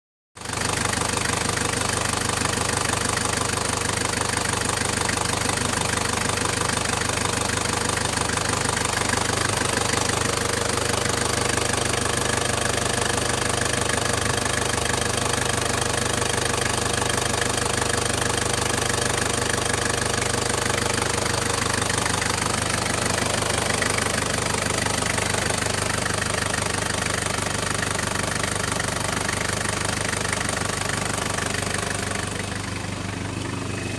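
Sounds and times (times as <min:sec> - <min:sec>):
engine idling: 0:00.4 - 0:33.9.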